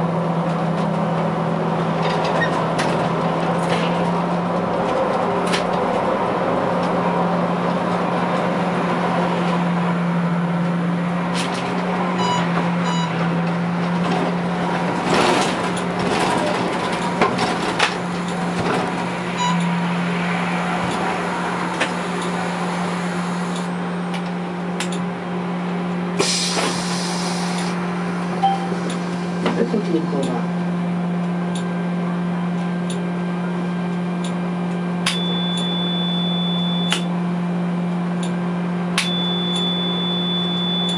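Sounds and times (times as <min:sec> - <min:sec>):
trolleybus electric hum: 0:00.0 - 0:40.9.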